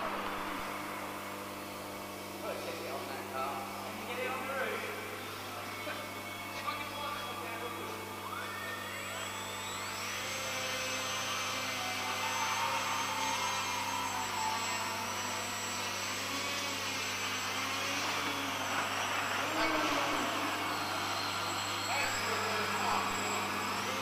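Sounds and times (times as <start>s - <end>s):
drone propellers whining: 0.0s - 24.0s.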